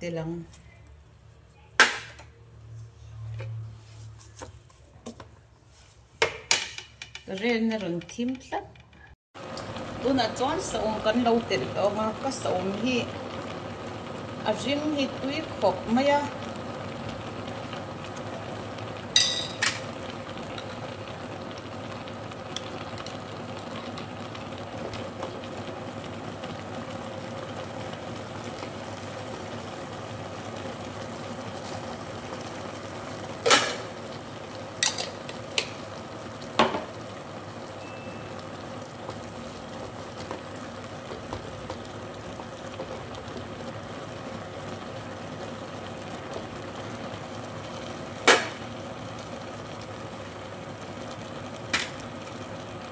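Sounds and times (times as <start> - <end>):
stew bubbling in a pot: 7.3 - 52.9.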